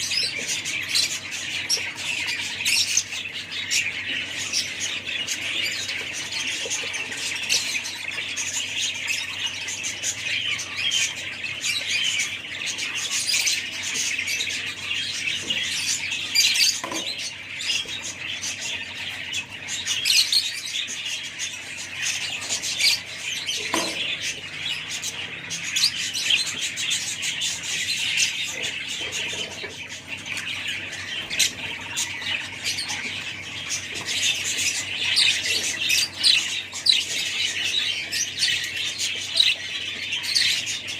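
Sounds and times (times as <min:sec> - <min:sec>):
parrots chirping and squawking: 0:00.0 - 0:40.9.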